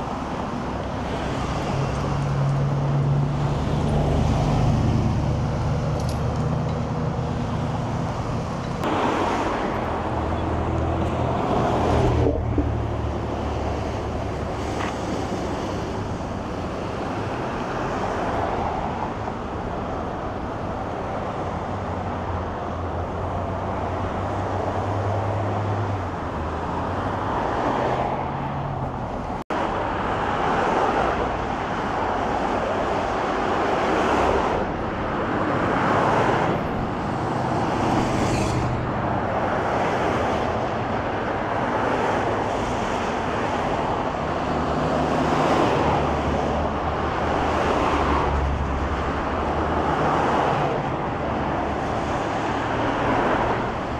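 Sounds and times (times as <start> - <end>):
road traffic: 0.0 - 53.9.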